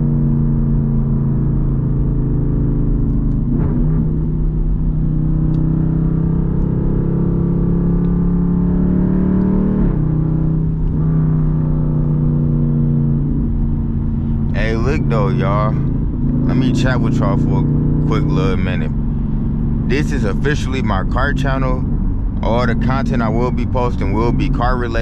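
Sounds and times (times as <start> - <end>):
car exhaust droning: 0.0 - 25.0.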